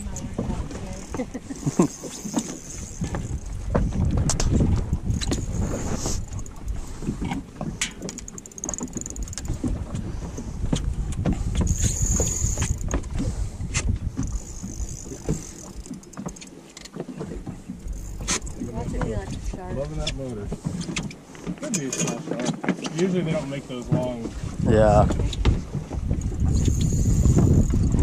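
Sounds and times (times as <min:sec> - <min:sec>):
wind rumbling on microphone: 0:00.0 - 0:16.3, 0:17.2 - 0:21.2, 0:23.8 - 0:28.0
water slapping against boat hull: 0:00.0 - 0:28.0.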